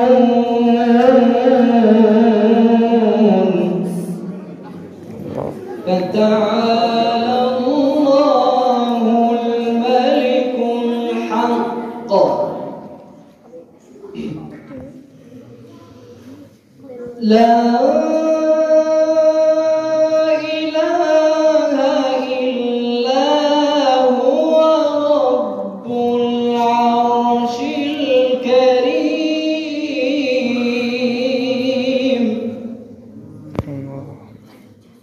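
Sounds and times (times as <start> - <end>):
young male voice chanting: 0.0 - 4.3, 5.7 - 13.2, 16.9 - 34.4.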